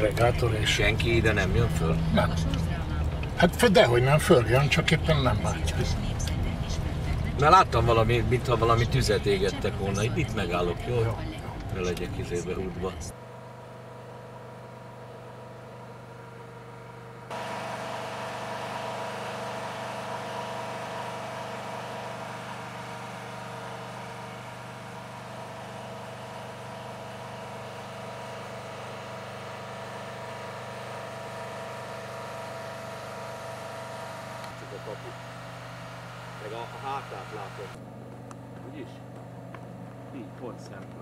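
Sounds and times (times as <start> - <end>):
generator running: 0.0 - 41.0.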